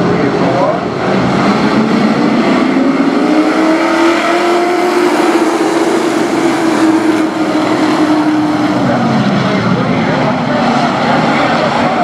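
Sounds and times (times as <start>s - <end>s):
race truck engines at full throttle: 0.0s - 12.0s.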